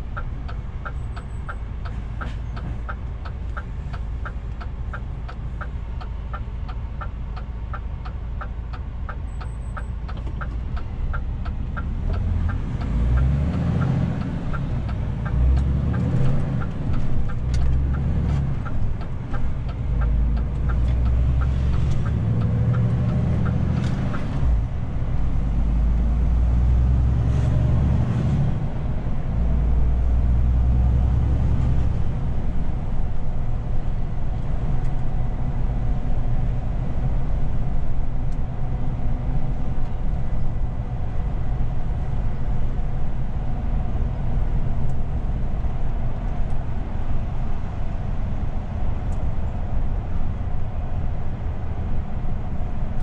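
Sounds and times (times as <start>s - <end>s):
turn signal ticking: 0.0s - 50.9s
diesel truck engine: 0.0s - 53.0s
road noise: 0.0s - 53.0s.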